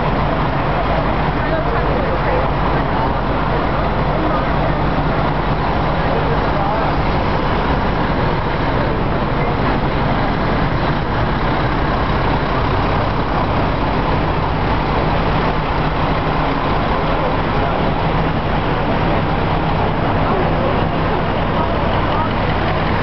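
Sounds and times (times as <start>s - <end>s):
diesel engines rumbling: 0.0s - 23.0s.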